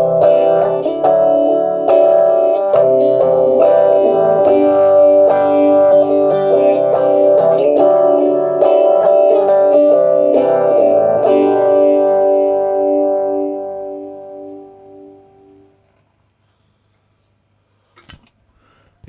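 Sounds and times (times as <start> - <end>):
electric guitar with wobble effect: 0.0 - 16.1.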